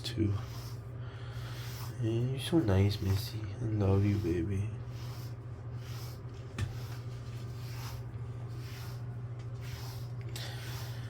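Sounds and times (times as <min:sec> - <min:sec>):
brush swishing through fur: 0:00.0 - 0:11.0
steady low hum: 0:00.0 - 0:11.0.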